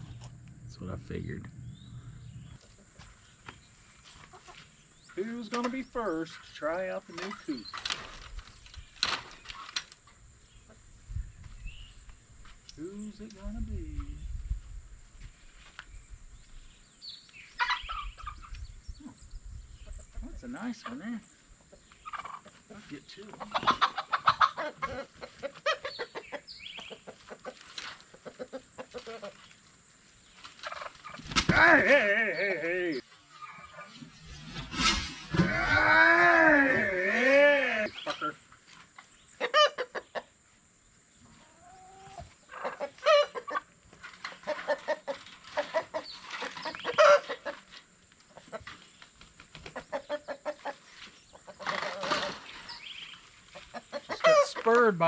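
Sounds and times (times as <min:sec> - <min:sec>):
chickens clucking: 0:00.0 - 0:11.6, 0:17.5 - 0:19.1, 0:19.7 - 0:32.1, 0:32.8 - 0:55.0.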